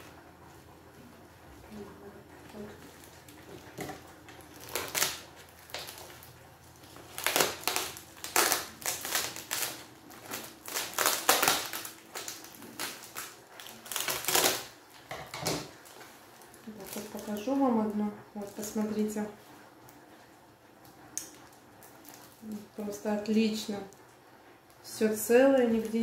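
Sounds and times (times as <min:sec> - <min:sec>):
plastic film crinkling: 0:02.5 - 0:24.1.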